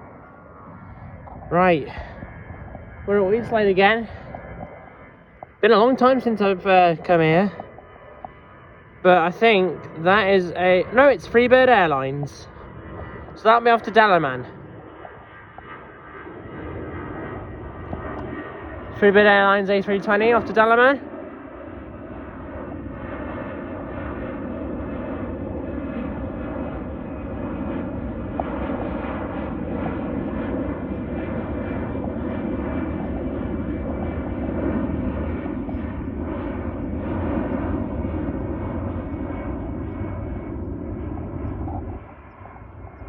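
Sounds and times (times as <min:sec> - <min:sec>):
jet engines roaring: 0:00.0 - 0:43.0.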